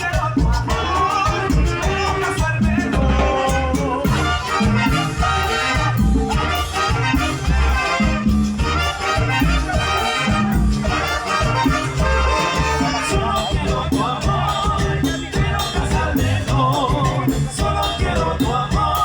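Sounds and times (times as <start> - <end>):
latin dance band playing: 0.0 - 19.0.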